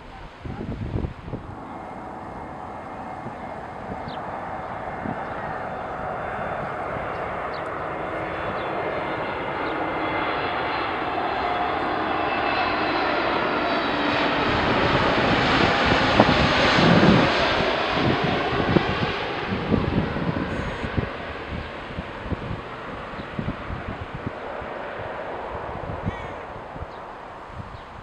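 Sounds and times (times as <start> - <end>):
jet aircraft roar: 0.0 - 28.0
wind buffeting microphone: 0.0 - 28.0.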